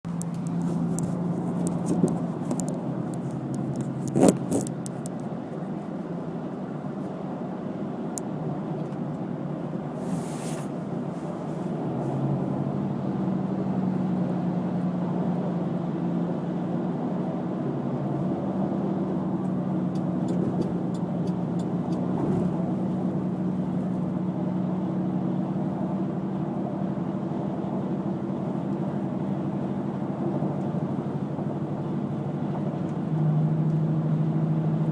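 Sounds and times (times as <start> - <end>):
car road and engine hum: 0.0 - 34.9.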